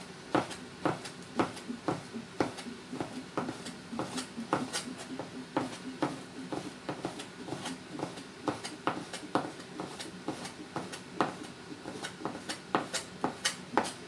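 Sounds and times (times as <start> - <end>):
cleaver chopping on cutting board: 0.3 - 14.0.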